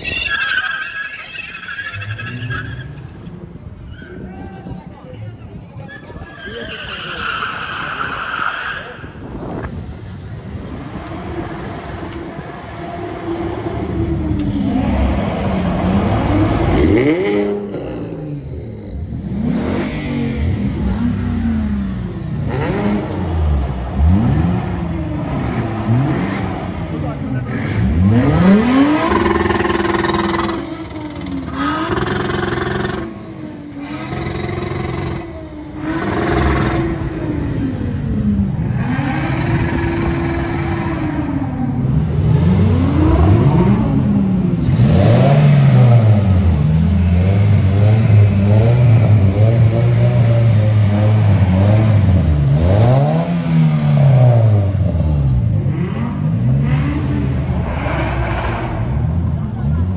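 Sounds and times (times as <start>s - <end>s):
car engines revving: 0.0s - 59.9s
car doing a burnout: 6.0s - 59.9s.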